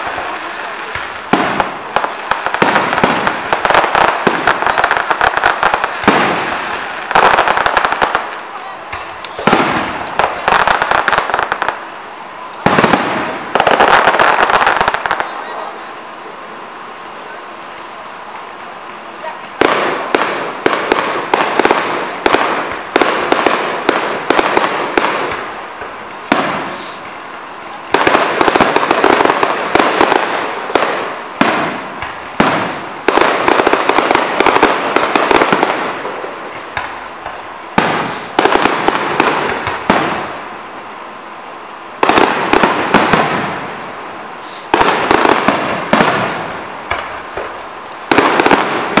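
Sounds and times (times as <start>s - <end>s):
firework bangs: 0.0s - 49.0s
firework crackling: 0.0s - 49.0s.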